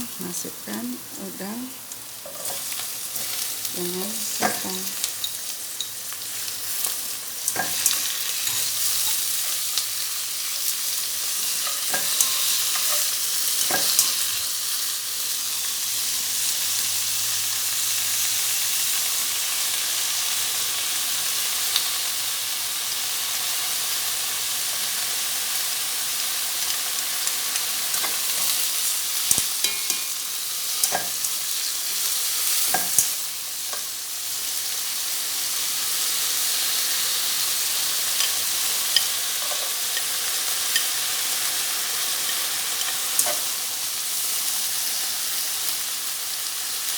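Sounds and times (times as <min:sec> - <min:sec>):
shrimp sizzling in hot oil: 0:00.0 - 0:46.9.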